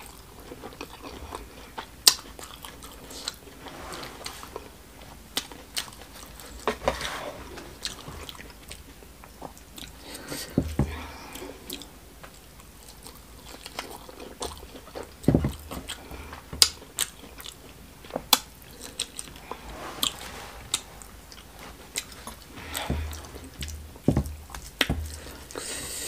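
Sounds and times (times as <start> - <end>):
close chewing: 0.0 - 10.6, 11.2 - 26.0.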